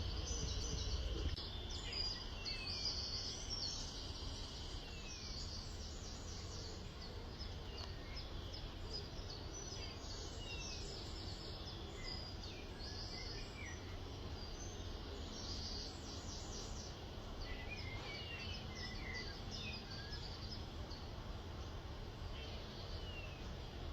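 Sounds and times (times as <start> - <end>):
small birds chirping: 0.0 - 23.9
steady low background hum: 0.0 - 23.9.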